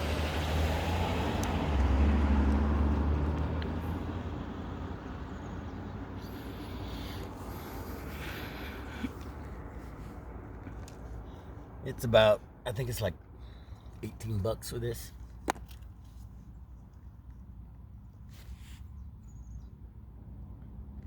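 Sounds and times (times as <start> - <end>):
vehicle engine rumble passing by: 0.0 - 21.0.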